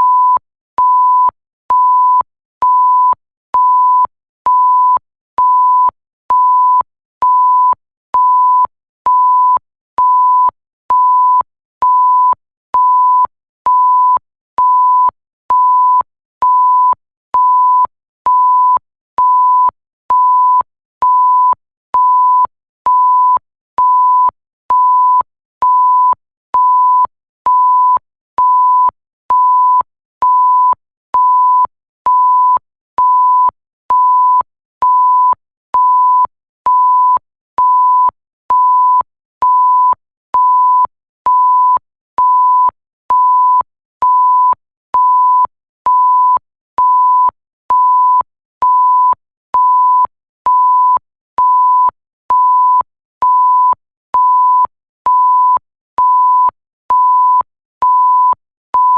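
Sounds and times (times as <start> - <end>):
high censor beeps: 0.0 - 58.9.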